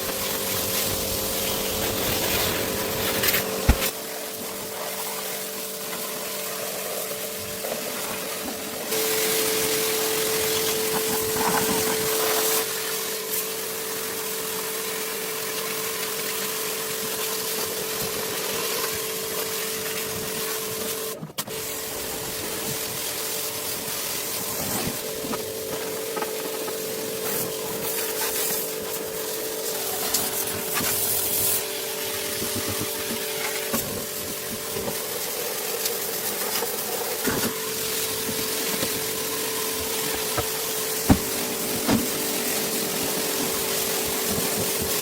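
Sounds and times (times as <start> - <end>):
hiss: 0.0 - 14.2, 15.1 - 45.0
small machine humming: 0.0 - 45.0.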